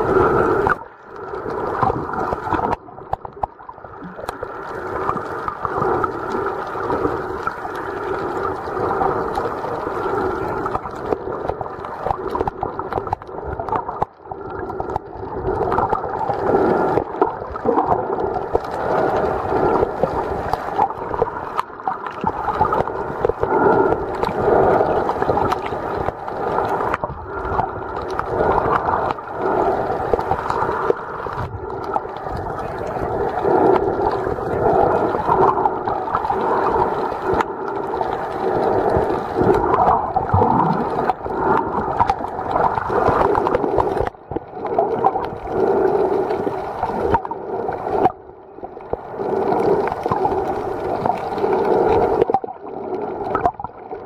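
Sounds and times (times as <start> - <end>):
muffled underwater gurgling: 0.0 - 54.0.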